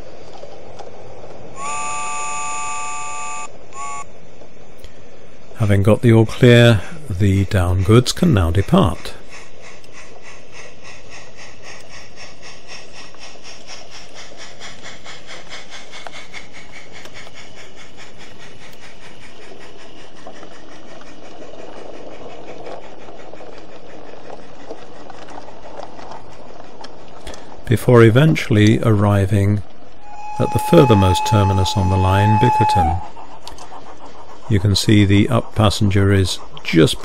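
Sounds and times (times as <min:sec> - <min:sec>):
steam locomotive exhaust beats: 0:00.0 - 0:37.0
steam hissing: 0:01.5 - 0:04.0, 0:04.9 - 0:37.0.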